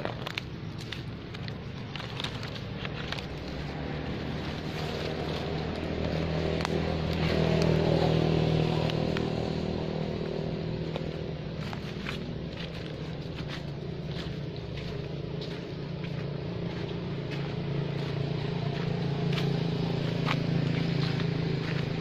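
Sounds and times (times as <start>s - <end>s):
footsteps on dry leaves: 0.0s - 22.0s
vehicle engine passing: 0.0s - 22.0s.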